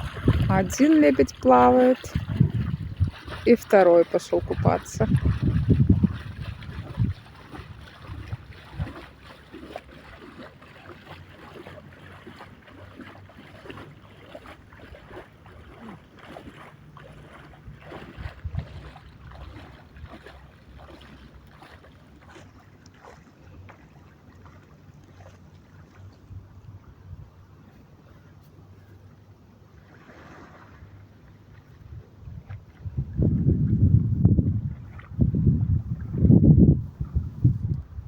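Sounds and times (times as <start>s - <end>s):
wind rumbling on microphone: 0.0s - 21.6s, 25.2s - 27.9s, 30.1s - 38.0s
water splashing from swimming: 0.0s - 26.3s, 29.8s - 36.4s.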